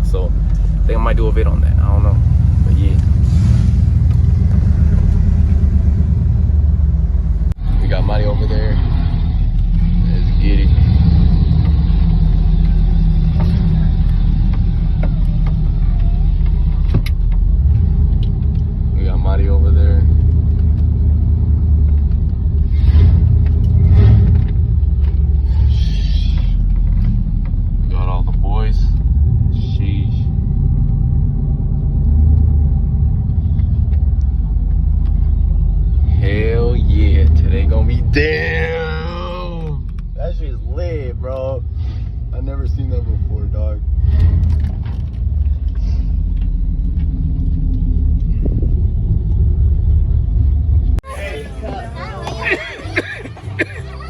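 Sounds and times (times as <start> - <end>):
road noise: 0.0 - 54.0
vehicle engine rumble: 0.0 - 54.0.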